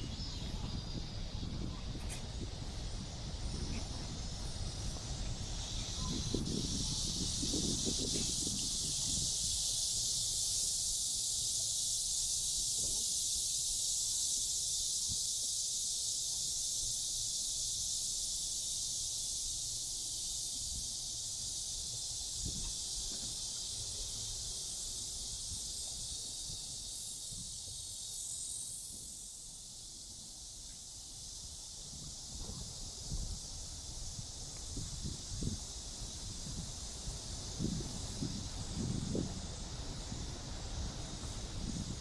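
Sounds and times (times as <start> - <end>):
cicadas droning: 0.0 - 42.0.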